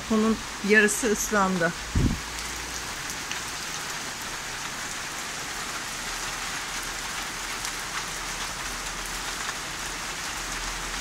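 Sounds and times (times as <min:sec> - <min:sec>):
rain falling on a roof: 0:00.0 - 0:11.0.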